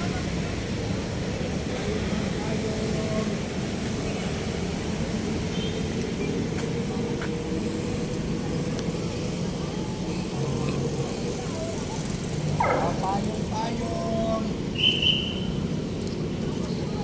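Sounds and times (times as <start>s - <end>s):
faint background voices: 0.0s - 14.7s
engine rumble: 0.0s - 17.0s.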